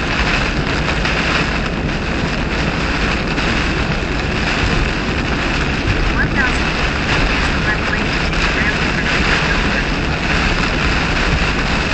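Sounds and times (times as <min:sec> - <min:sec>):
heavy rain and wind on car: 0:00.0 - 0:11.9
tyre spray on wet road: 0:00.0 - 0:11.9.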